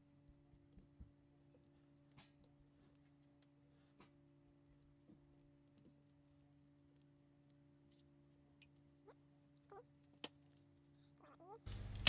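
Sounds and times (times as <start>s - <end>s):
faint clicks of plastic parts: 0.0s - 12.0s.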